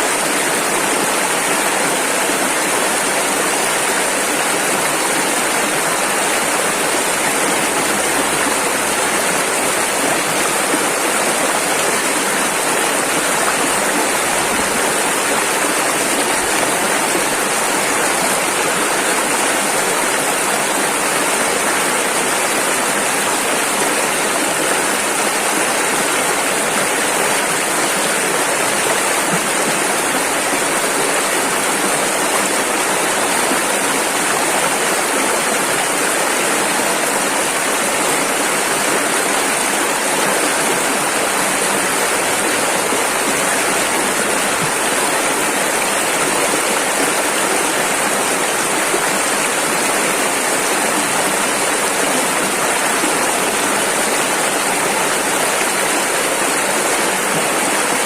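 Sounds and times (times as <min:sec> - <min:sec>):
rushing river water: 0:00.0 - 0:58.0.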